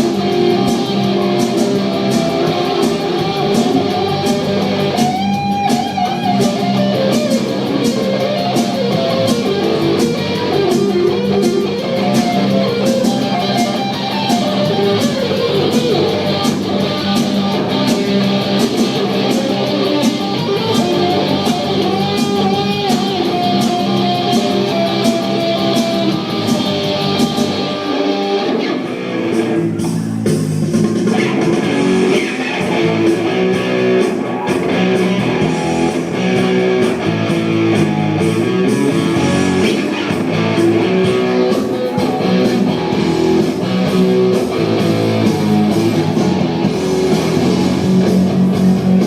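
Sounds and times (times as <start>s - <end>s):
steady drum beat: 0.0s - 27.8s, 29.0s - 49.0s
bass guitar: 0.0s - 49.0s
melodic guitar line: 0.0s - 49.0s
strummed guitar: 0.0s - 49.0s.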